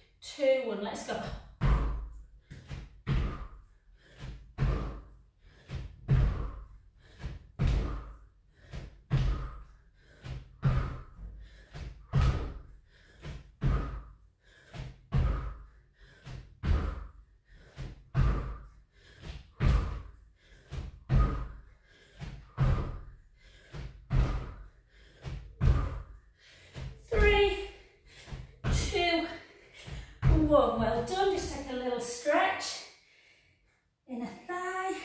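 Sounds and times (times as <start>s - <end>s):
feet thudding on exercise mat: 1.5s - 14.1s, 14.7s - 31.6s.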